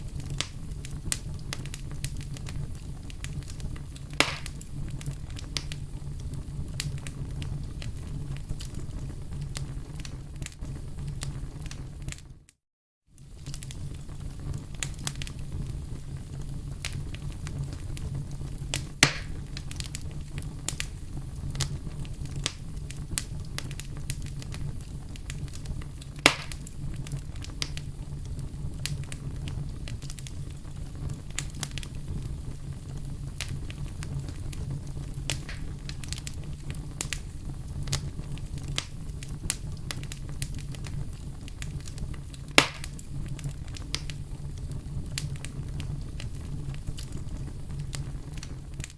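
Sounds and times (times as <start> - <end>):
fire popping: 0.0 - 12.4, 13.1 - 48.9
wood fire crackling: 0.0 - 12.4, 13.1 - 48.9
low rumble of flames: 0.0 - 12.5, 13.1 - 48.9.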